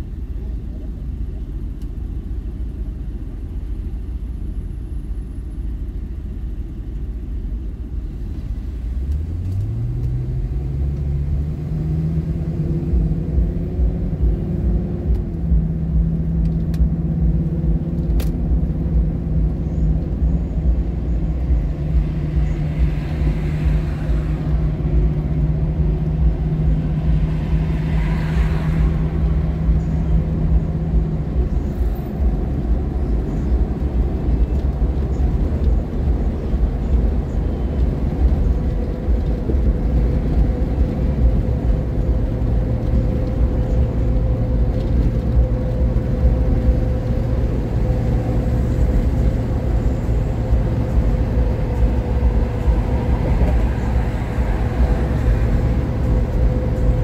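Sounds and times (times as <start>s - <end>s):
low road rumble: 0.0s - 57.0s
truck engine accelerating: 0.0s - 57.0s.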